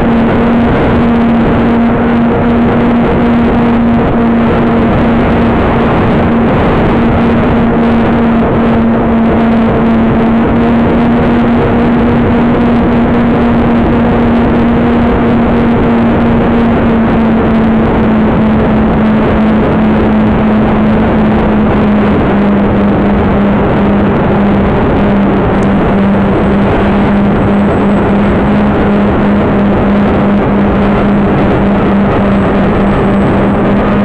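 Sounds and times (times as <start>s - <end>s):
steady low hum: 0.0s - 34.0s
wind buffeting microphone: 0.0s - 34.0s.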